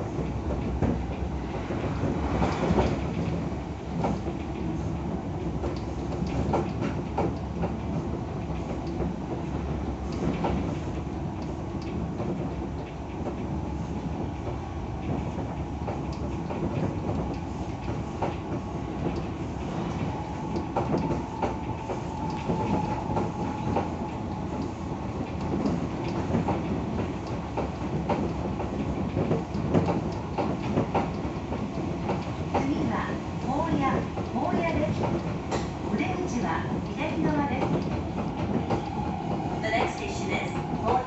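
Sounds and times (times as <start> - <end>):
electric train rumbling: 0.0 - 41.0.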